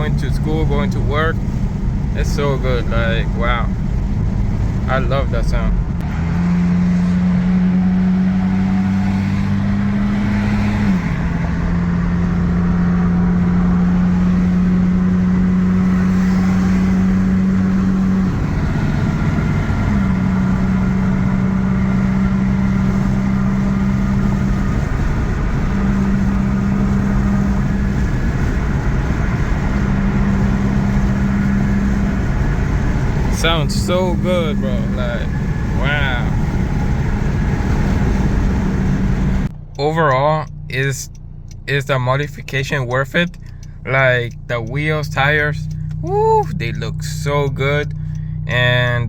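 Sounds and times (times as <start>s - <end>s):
car engine droning: 0.0s - 49.0s.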